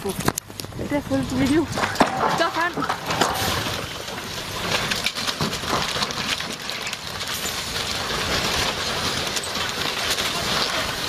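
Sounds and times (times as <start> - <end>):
truck rumbling and scraping: 0.0 - 11.0
small clattering knocks: 1.4 - 10.7.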